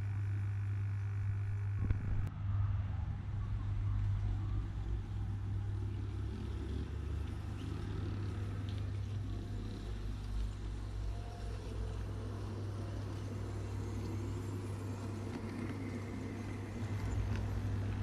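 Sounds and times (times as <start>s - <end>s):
model tram motor humming: 0.0s - 18.0s
wheels rumbling on rails: 1.7s - 18.0s.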